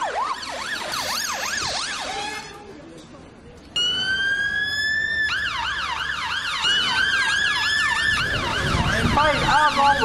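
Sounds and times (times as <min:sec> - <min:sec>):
siren long rising tone: 0:00.0 - 0:02.6, 0:03.8 - 0:10.0
siren yelping: 0:00.0 - 0:02.6, 0:03.8 - 0:10.0.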